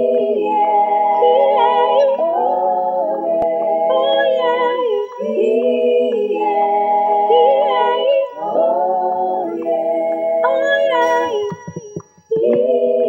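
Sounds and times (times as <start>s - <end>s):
woman singing a cappella: 0.0s - 13.0s.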